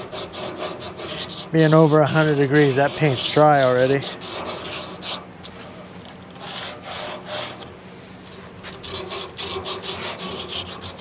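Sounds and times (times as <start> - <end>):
sandpaper rubbing on metal: 0.0 - 11.0.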